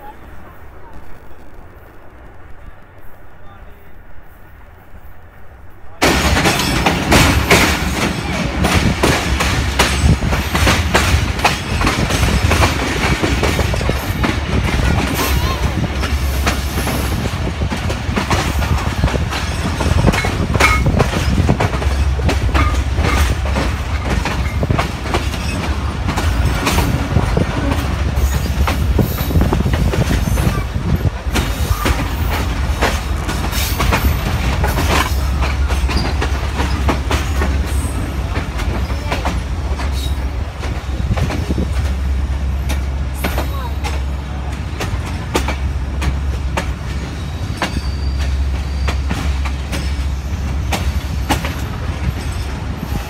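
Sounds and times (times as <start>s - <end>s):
train wheels clattering on rails: 6.0s - 53.0s.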